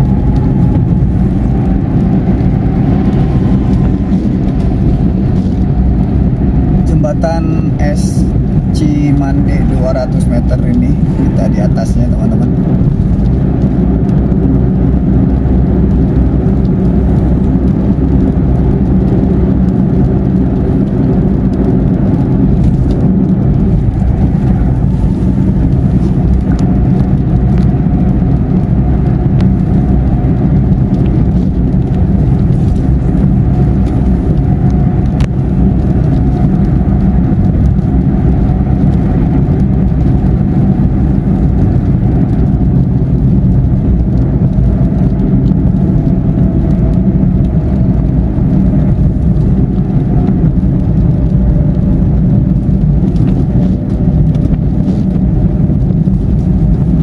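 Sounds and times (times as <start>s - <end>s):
car engine and tyres droning: 0.0s - 57.0s.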